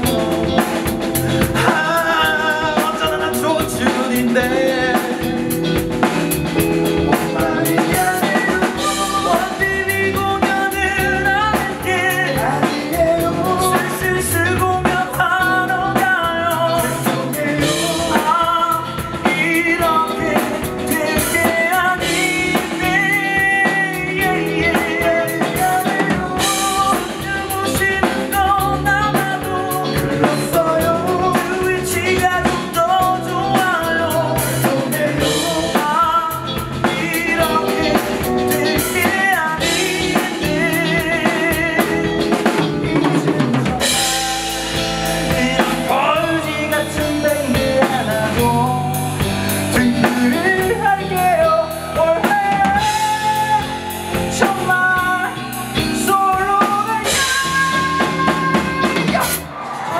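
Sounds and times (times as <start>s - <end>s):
backing vocals: 0.0s - 59.9s
drum kit: 0.0s - 59.9s
electric guitars: 0.0s - 59.9s
man singing lead vocal: 0.0s - 59.9s.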